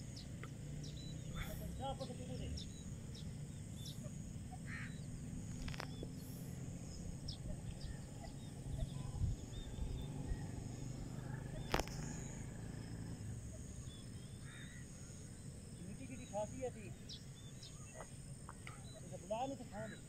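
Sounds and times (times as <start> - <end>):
faint bird chirps: 0.0 - 20.0
steady low hum: 0.0 - 20.0.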